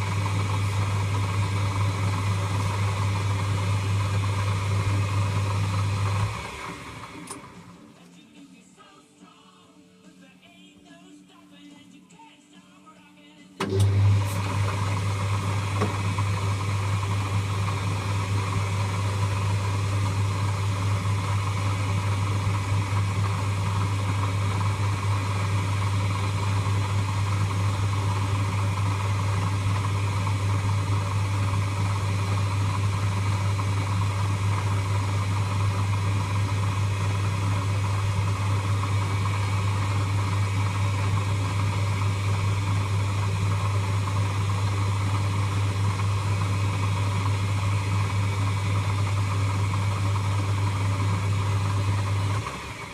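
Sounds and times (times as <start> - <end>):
lathe motor humming: 0.0 - 7.9, 13.6 - 52.9.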